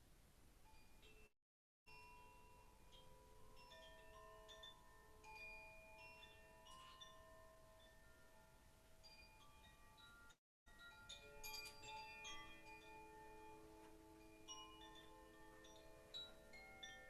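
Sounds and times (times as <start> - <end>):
metallic chimes ringing: 1.9 - 17.0.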